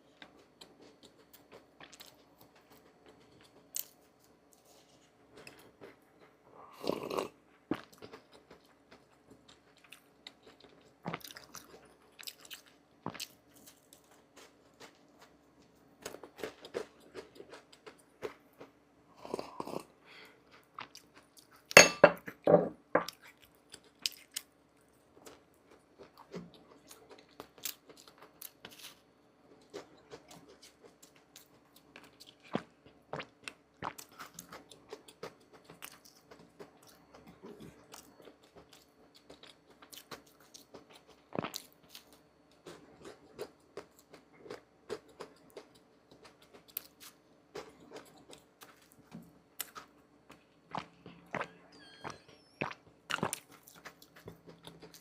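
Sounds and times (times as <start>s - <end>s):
crunchy food being chewed: 0.0s - 21.8s, 23.0s - 55.0s.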